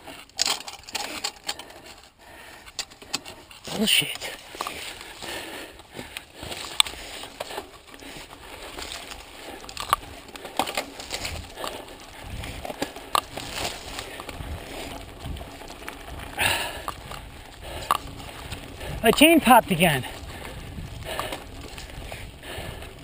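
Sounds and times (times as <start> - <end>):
bike clacking and rattling: 0.0 - 23.0
bike tyres crunching over dirt: 0.0 - 23.0.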